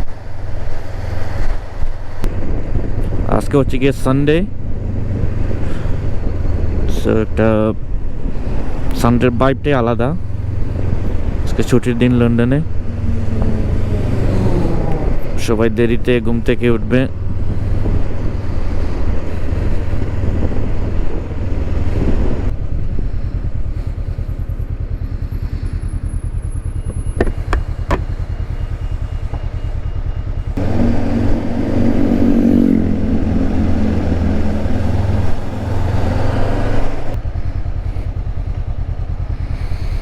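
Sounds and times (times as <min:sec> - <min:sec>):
motorcycle engine rumbling: 0:00.0 - 0:40.0.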